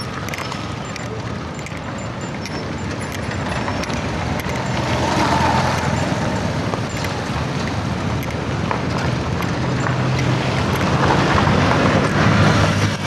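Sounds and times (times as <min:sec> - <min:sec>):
light rattling: 0:00.0 - 0:12.7
vehicle driving on dirt road: 0:00.0 - 0:13.0.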